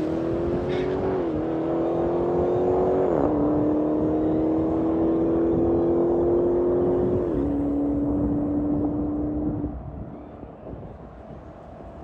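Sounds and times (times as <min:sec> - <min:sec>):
car engine accelerating hard: 0:00.0 - 0:09.8.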